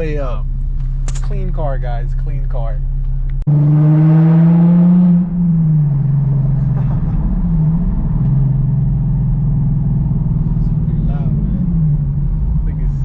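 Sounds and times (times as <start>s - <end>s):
car engine changing gear: 0.0s - 13.0s.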